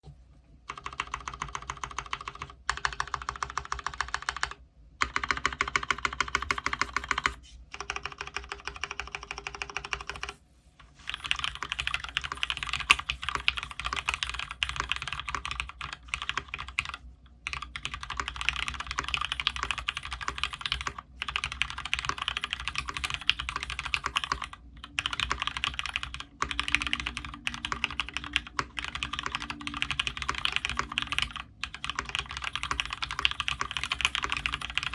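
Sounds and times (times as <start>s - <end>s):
mechanical keyboard typing: 0.7s - 10.4s, 11.1s - 34.9s.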